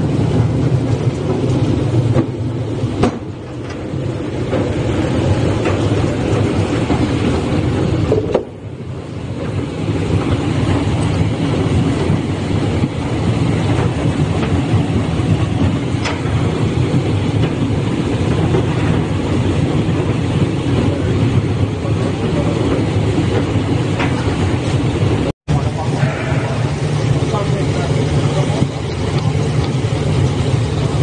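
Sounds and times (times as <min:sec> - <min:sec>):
peeling machine rumbling: 0:00.0 - 0:31.0.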